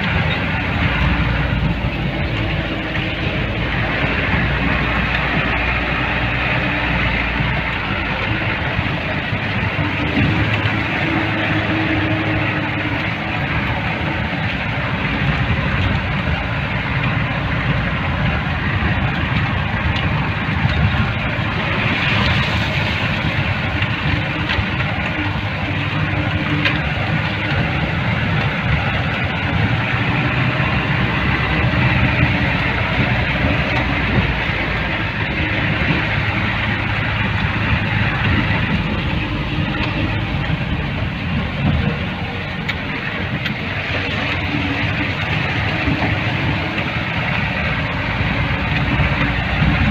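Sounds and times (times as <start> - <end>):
jeep engine running: 0.0 - 49.9
road noise on dirt track: 0.0 - 49.9.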